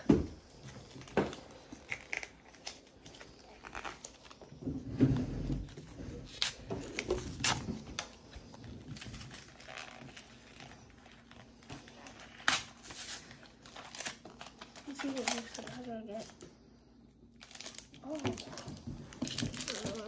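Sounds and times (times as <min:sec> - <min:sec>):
wrapper crinkling and tearing: 0:00.6 - 0:04.5, 0:06.3 - 0:16.4, 0:17.3 - 0:20.0.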